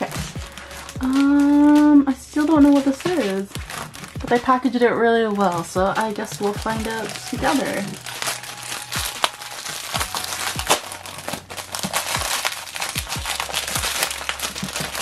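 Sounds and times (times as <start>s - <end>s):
instrumental music with kick drum: 0.0s - 15.0s
packaging crinkling and rustling: 0.0s - 15.0s.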